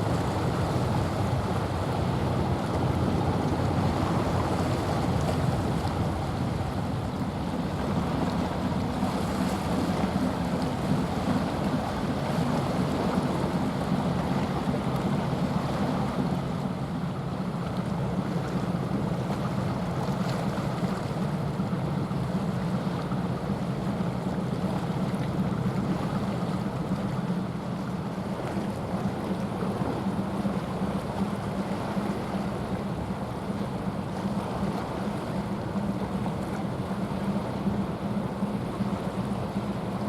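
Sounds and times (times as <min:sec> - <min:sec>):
ship engine drone: 0:00.0 - 0:40.0
water noise: 0:00.0 - 0:40.0
wind: 0:00.0 - 0:40.0.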